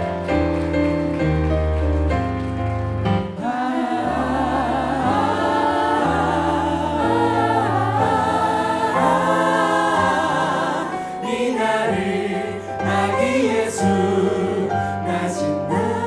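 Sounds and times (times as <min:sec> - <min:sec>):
church choir singing: 0:00.0 - 0:16.0.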